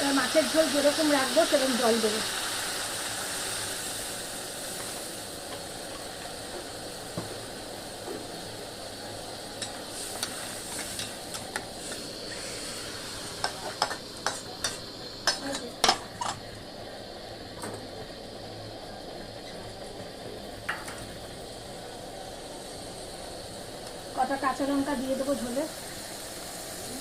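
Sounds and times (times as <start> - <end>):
sizzling hiss: 0.0 - 27.0.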